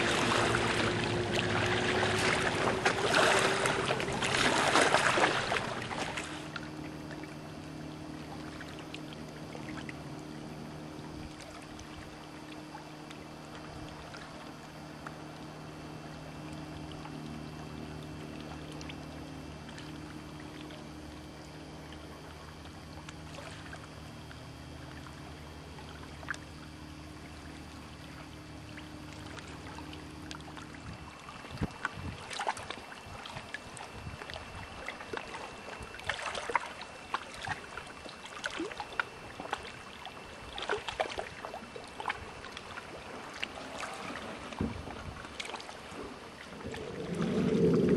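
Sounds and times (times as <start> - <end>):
motorboat engine running: 0.0 - 47.9
water sounds: 0.0 - 47.9.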